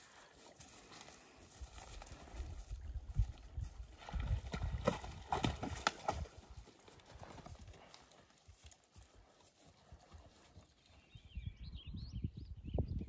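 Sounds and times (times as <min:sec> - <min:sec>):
horse hoofbeats on grass: 0:00.0 - 0:11.3.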